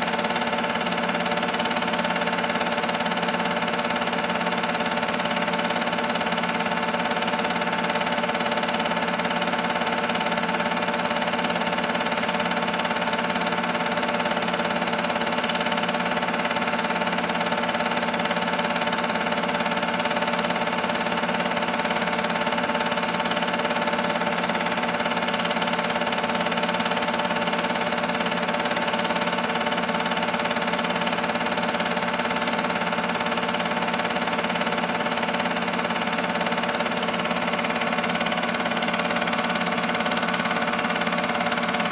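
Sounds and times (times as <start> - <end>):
projector motor and fan hum: 0.0 - 41.9.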